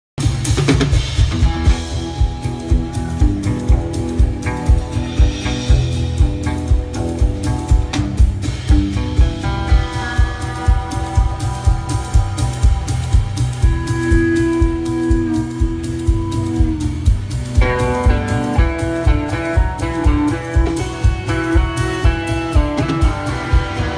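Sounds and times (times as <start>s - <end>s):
drum kit beat: 0.2s - 23.9s
electric guitar: 0.2s - 23.9s.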